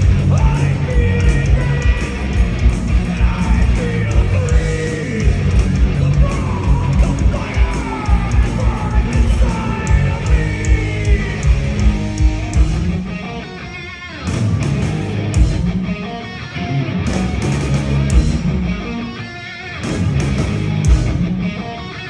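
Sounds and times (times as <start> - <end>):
heavy metal band playing live: 0.0 - 22.0.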